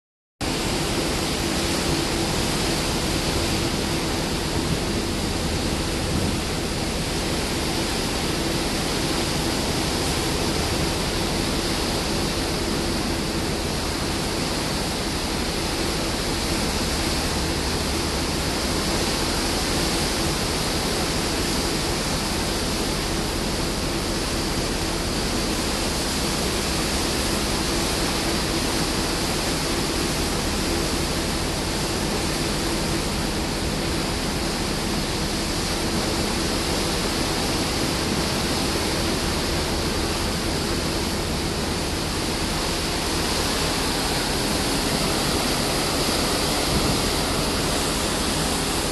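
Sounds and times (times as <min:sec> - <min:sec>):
water rushing in ship's wake: 0:00.4 - 0:48.9
wind: 0:00.4 - 0:48.9.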